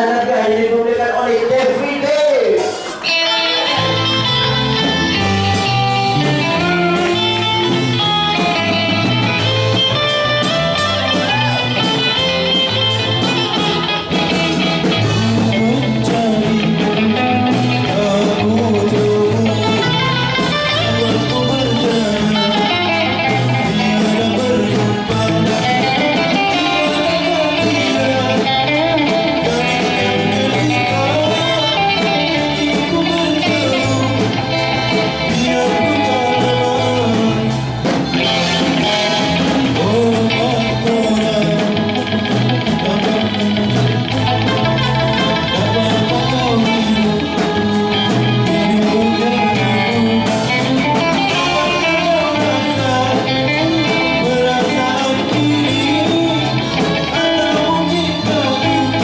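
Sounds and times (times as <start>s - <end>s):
man singing into a microphone: 0.0s - 4.2s, 14.8s - 59.0s
electric guitars: 0.0s - 59.0s.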